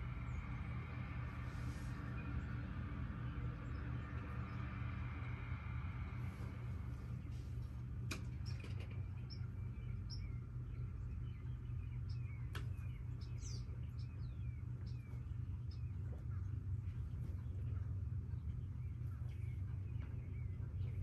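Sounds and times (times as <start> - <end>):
birds chirping: 0.0 - 21.0
low rumble: 0.0 - 21.0.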